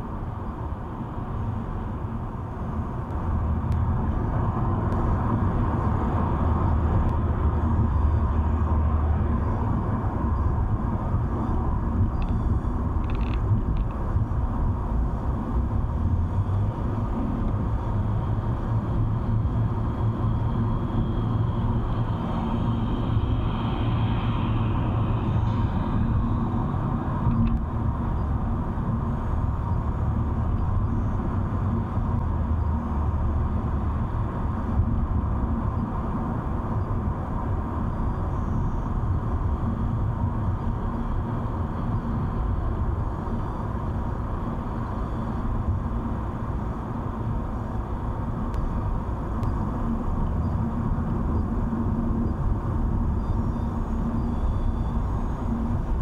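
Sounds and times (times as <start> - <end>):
faint steady hum: 0.0 - 56.0
tyre and engine rumble: 0.0 - 56.0.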